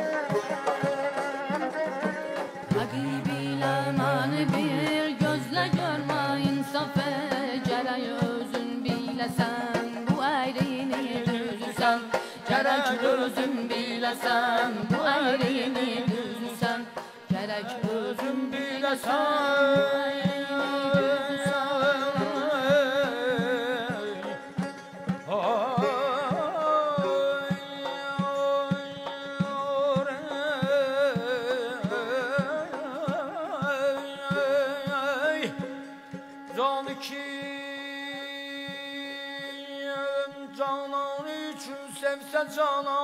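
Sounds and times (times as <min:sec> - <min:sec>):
frame drums beating: 0:00.0 - 0:36.6
melismatic wordless singing: 0:00.0 - 0:43.0.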